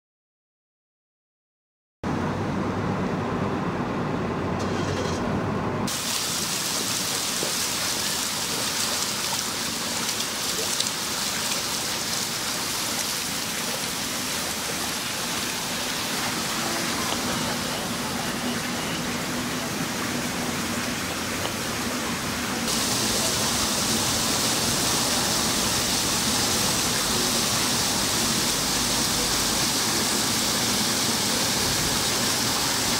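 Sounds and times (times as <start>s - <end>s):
water gushing: 5.9s - 32.9s.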